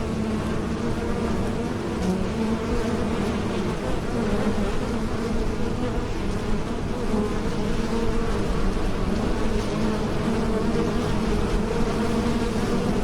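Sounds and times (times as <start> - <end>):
bees buzzing in flight: 0.0 - 13.0.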